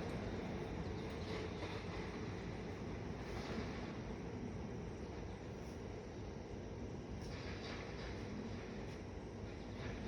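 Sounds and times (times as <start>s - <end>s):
faint steady background noise: 0.0s - 10.0s.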